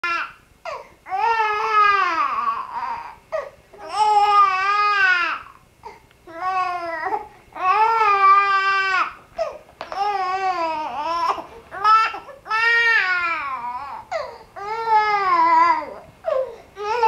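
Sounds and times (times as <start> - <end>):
baby crying: 0.0 - 17.0.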